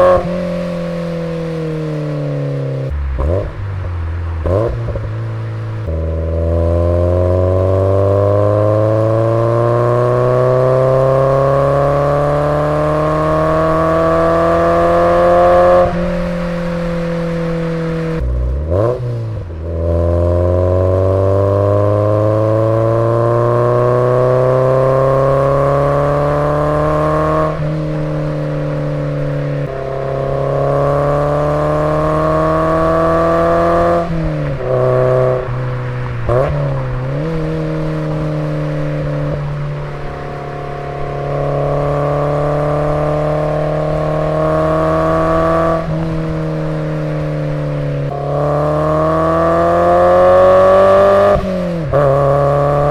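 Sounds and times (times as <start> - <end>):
car engine revving while driving: 0.0 - 52.9.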